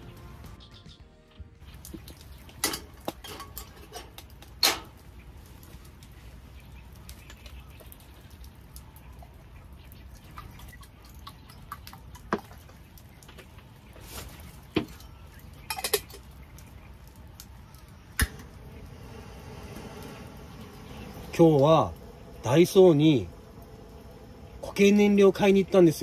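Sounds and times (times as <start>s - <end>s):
rain hissing: 1.6s - 10.3s, 12.8s - 26.0s.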